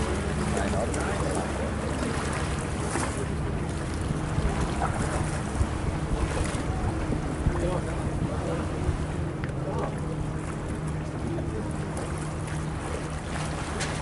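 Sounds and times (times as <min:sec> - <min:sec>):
boat engine humming: 0:00.0 - 0:14.0
lake water washing: 0:00.0 - 0:14.0
wind buffeting the microphone: 0:00.0 - 0:14.0.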